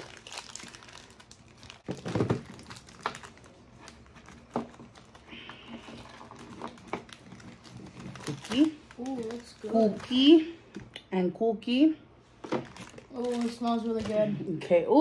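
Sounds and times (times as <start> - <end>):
wrapper crinkling and tearing: 0.0 - 10.4, 12.5 - 14.2.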